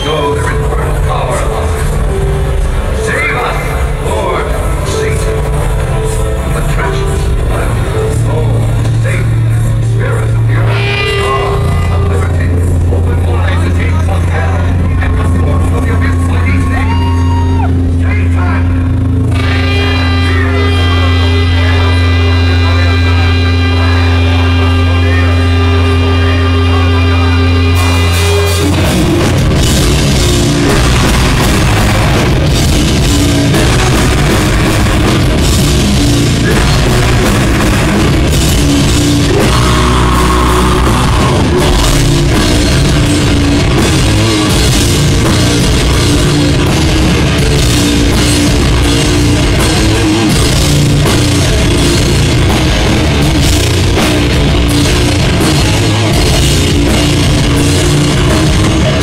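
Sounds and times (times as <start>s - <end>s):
live heavy metal band: 0.0s - 59.0s.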